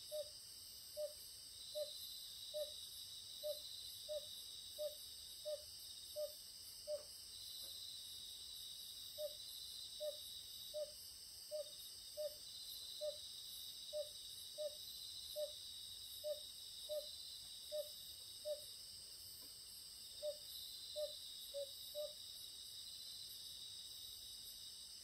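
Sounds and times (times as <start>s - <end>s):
crickets and night insects: 0.0s - 25.0s.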